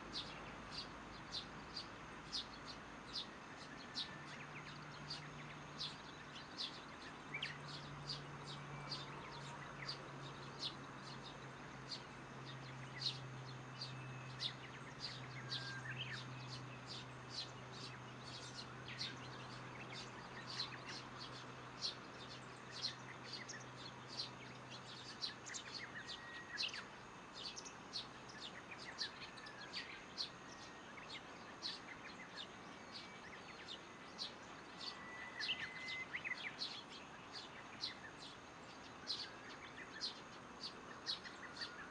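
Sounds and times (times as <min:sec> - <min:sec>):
birds chirping: 0:00.0 - 0:41.9
whistled bird notes: 0:00.1 - 0:41.9.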